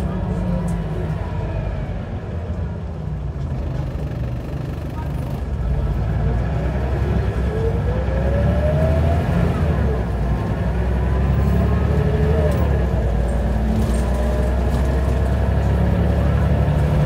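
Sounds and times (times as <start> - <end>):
bus diesel engine: 0.0 - 17.0.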